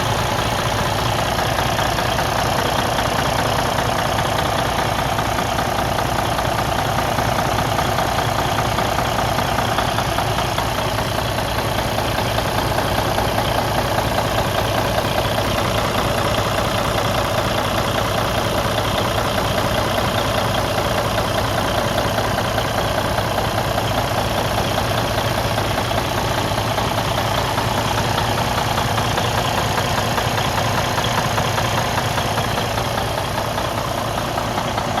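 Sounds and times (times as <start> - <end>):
diesel engine idling with knocking: 0.0 - 35.0.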